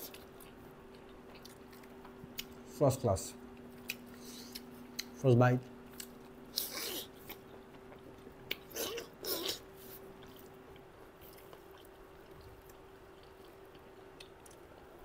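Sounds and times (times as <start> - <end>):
chewing fried food: 0.0 - 15.0
faint steady hum: 0.0 - 15.0.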